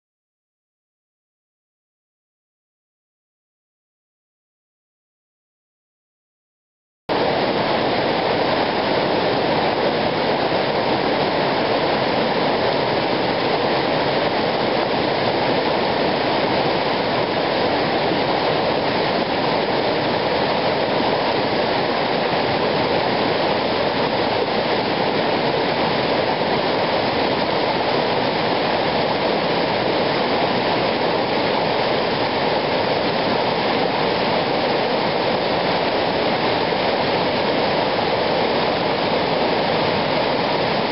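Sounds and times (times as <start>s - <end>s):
whitewater rushing over boulders: 7.1s - 40.9s.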